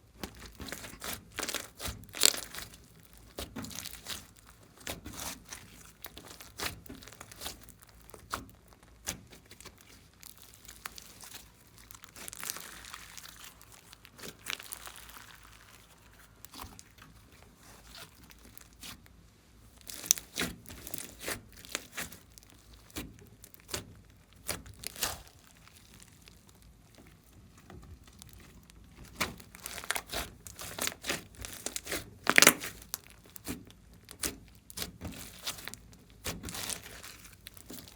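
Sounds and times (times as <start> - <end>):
slime squeezed by hand: 0.4 - 19.1, 19.8 - 26.6, 28.0 - 37.9.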